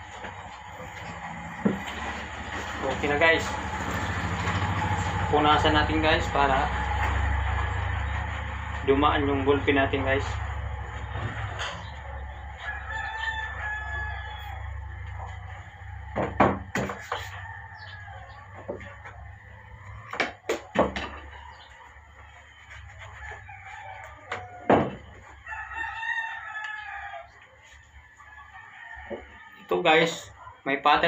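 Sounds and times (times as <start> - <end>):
rooster crowing: 0.0 - 30.4.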